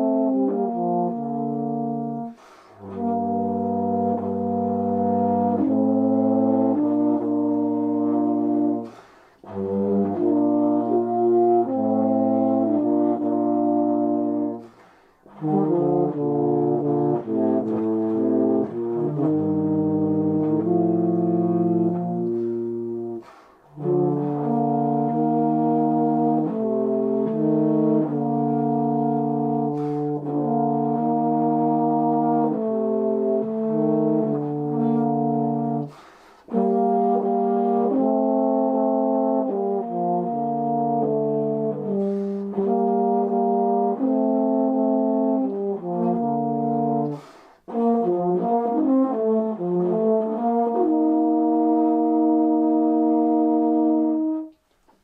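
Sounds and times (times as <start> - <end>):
euphonium duet: 0.0 - 55.0.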